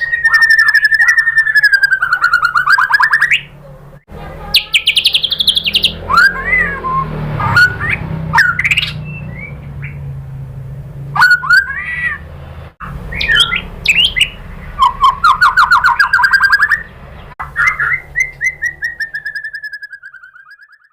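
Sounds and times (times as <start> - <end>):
bird singing whistled song: 0.0 - 3.6, 4.5 - 10.1, 11.2 - 12.2, 12.9 - 20.9.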